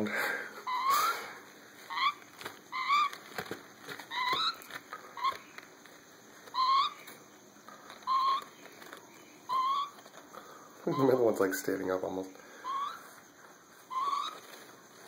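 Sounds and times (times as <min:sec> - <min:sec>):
parrot chicks chirping: 0:00.6 - 0:05.7, 0:06.4 - 0:11.7, 0:12.6 - 0:15.0.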